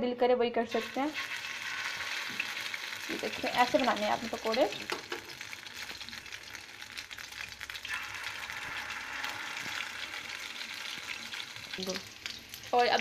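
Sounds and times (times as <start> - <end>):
hot oil sizzling and crackling: 0.7 - 13.0.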